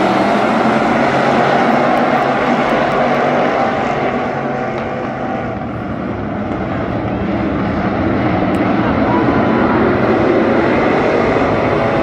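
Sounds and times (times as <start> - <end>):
stock car engines droning: 0.0 - 12.0.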